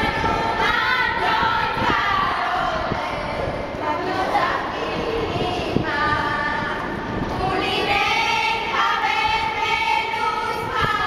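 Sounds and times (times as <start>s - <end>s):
young women singing together: 0.0s - 11.0s.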